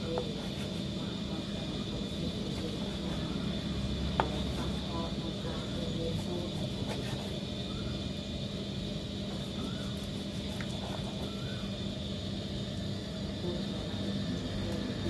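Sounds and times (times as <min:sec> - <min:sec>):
low mechanical hum with whine: 0:00.0 - 0:15.0.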